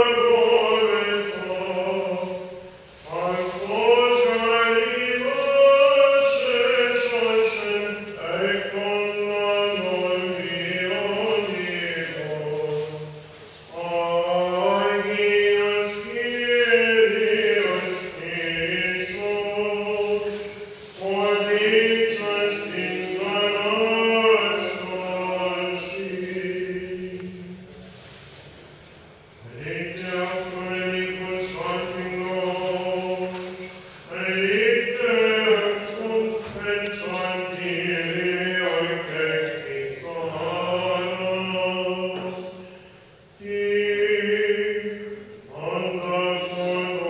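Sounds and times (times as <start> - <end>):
solo voice singing chant: 0.0 - 27.7, 29.4 - 47.0.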